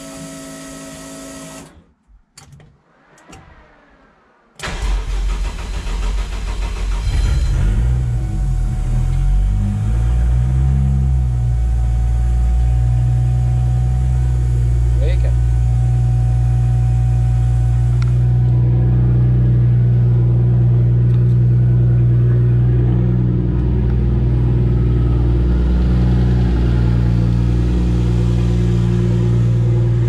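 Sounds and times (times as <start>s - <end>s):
car engine starting and idling: 0.3s - 30.0s
starter whine: 2.6s - 30.0s.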